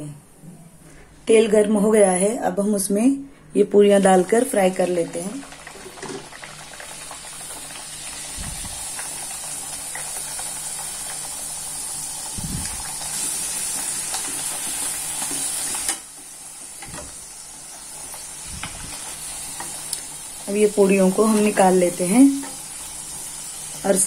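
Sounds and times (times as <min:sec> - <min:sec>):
dough sizzling in hot oil: 0:04.0 - 0:24.0.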